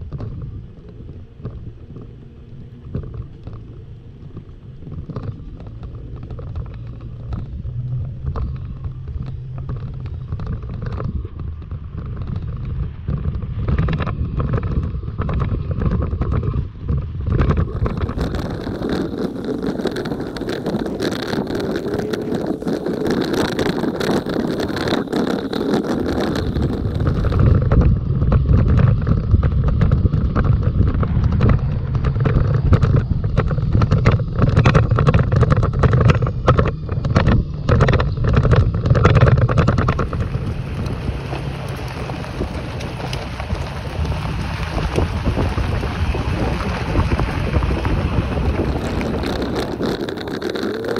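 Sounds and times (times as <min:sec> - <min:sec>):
knocks and clatters: 0:00.0 - 0:50.9
tyres rumbling on gravel: 0:00.0 - 0:50.9
wind buffeting microphone: 0:00.0 - 0:50.9.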